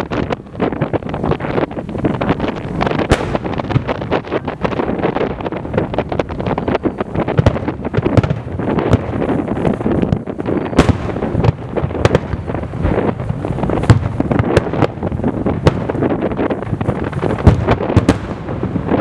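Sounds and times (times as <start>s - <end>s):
fireworks cracks: 0.0s - 19.0s
rolling rumble of booms: 0.0s - 19.0s.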